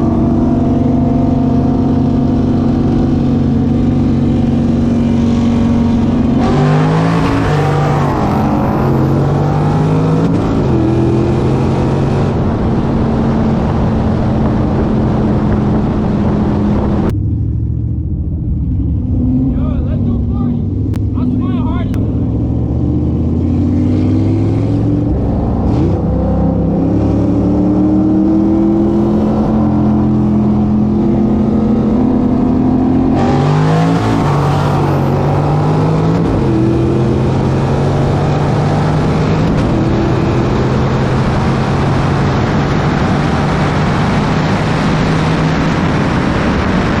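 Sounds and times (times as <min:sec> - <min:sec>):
wind noise rushing: 0:00.0 - 0:17.1, 0:23.8 - 0:47.0
car engine accelerating hard: 0:00.0 - 0:47.0.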